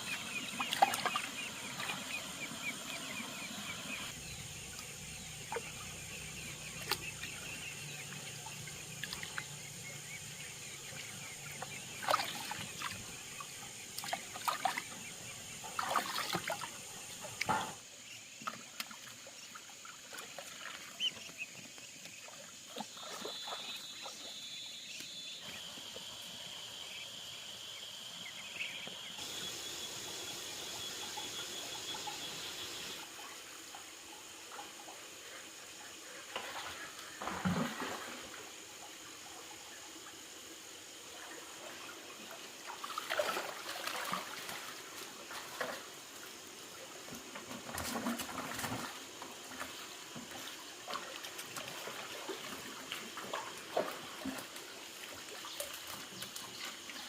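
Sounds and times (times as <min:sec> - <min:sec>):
water trickling and splashing: 0:00.0 - 0:26.2, 0:30.8 - 0:57.0.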